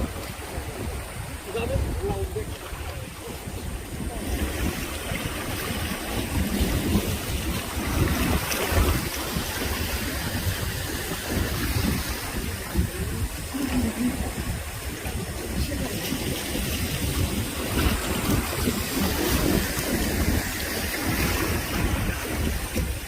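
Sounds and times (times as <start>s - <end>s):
seawater sloshing and splashing: 0.0s - 23.0s.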